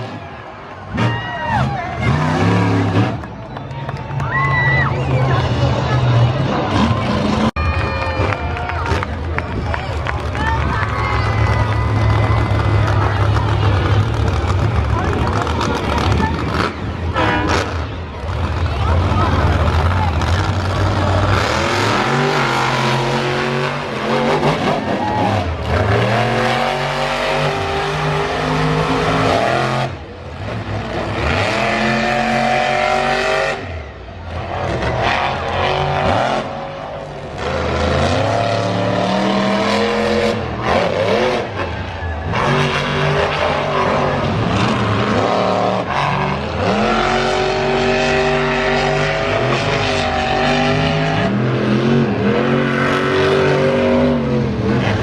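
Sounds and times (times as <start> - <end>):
monster truck engine revving: 0.0 - 3.7, 4.8 - 55.0.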